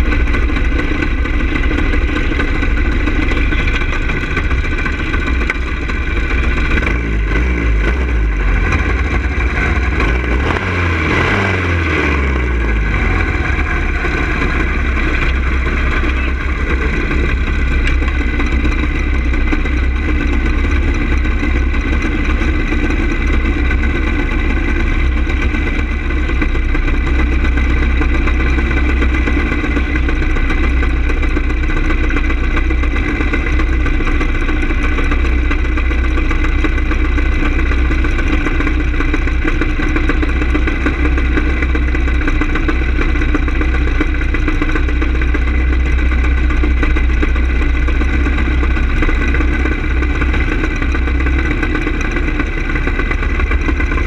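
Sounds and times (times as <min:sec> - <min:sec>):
go-kart engine idling: 0:00.0 - 0:54.0.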